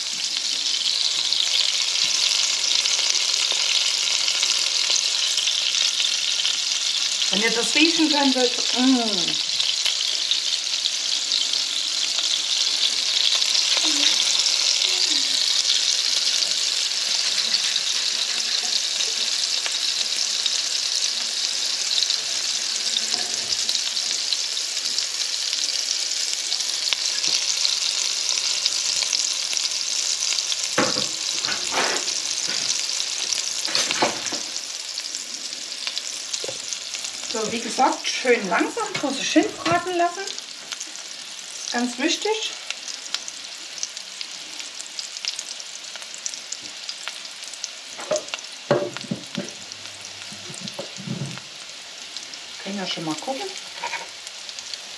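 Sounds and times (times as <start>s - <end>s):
patties sizzling in a pan: 0.0s - 54.9s.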